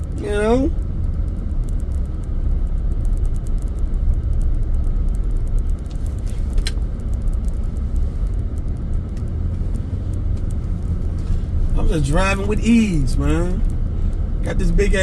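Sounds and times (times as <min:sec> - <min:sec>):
engine and tyre rumble: 0:00.0 - 0:15.0
faint ticks: 0:00.0 - 0:15.0.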